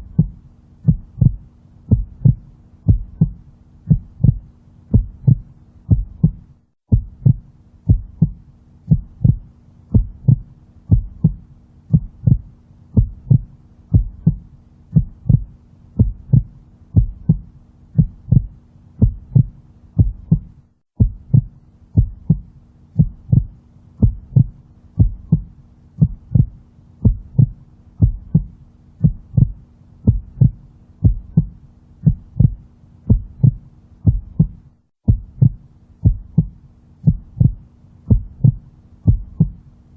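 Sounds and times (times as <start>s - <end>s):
heartbeat thumps: 0.0s - 39.7s
low steady hum: 0.0s - 39.9s.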